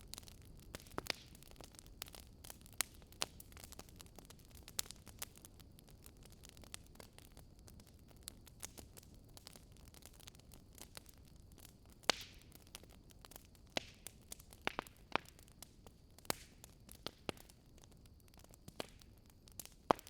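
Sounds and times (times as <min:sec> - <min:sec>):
burning wood popping: 0:00.0 - 0:20.0
low fire rumble: 0:00.0 - 0:20.0.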